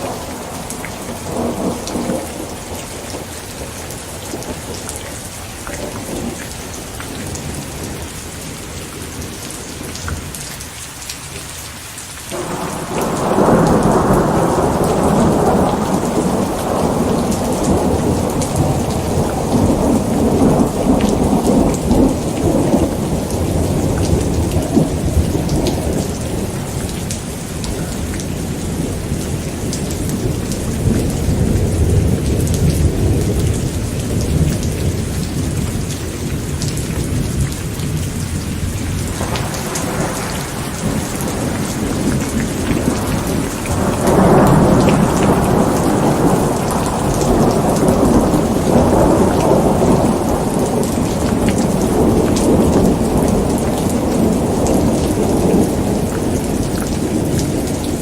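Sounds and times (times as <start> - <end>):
thunder rumbling: 0.0 - 10.4, 12.3 - 58.0
steady rain: 0.0 - 58.0.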